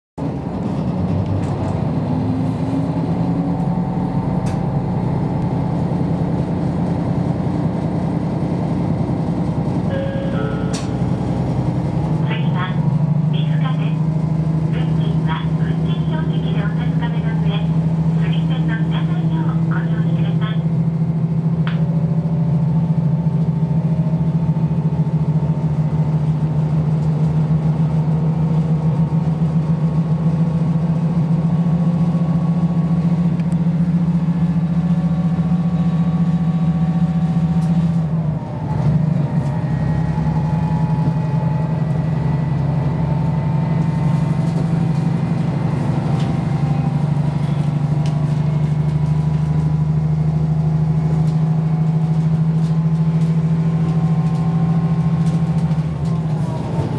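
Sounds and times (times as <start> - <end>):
diesel engine drone: 0.2 - 56.9
train running noise and whines: 0.2 - 56.9.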